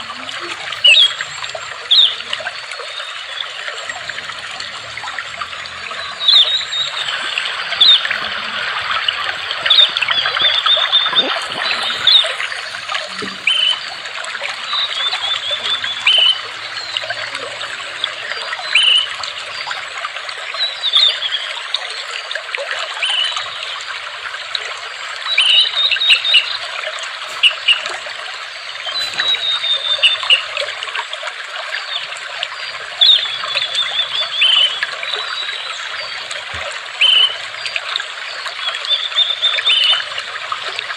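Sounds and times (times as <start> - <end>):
water trickling: 0.0 - 40.9.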